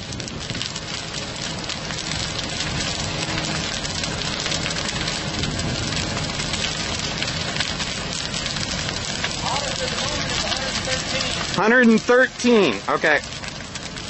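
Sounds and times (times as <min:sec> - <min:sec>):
fire crackling: 0:00.0 - 0:14.0.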